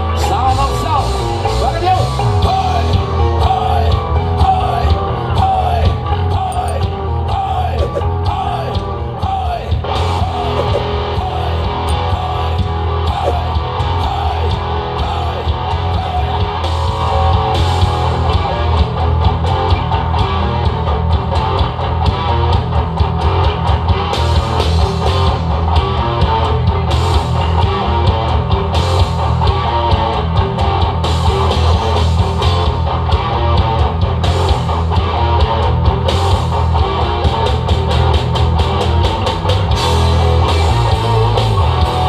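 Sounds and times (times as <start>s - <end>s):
distorted electric guitars: 0.0s - 42.0s
drum kit: 0.0s - 42.0s.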